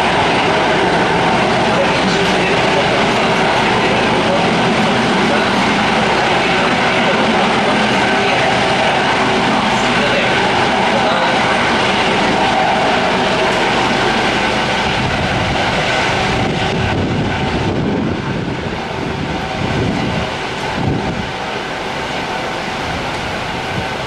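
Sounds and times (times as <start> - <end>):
helicopter rotor and turbine: 0.0 - 24.0.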